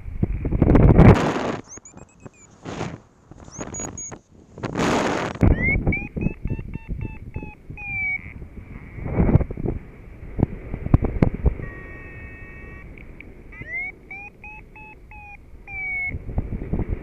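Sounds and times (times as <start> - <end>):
wind rumbling on microphone: 0.0 - 17.0
variometer beeping: 0.9 - 9.4, 10.9 - 17.0.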